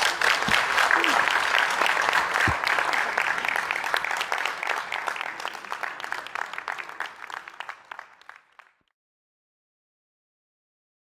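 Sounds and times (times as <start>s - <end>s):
audience applause: 0.0s - 8.9s.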